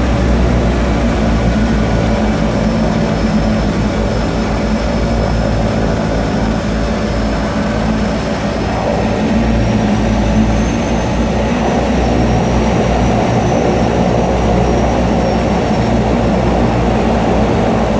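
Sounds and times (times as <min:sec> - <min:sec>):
faint high engine whine: 0:00.0 - 0:17.9
turboprop engines droning: 0:00.0 - 0:17.9.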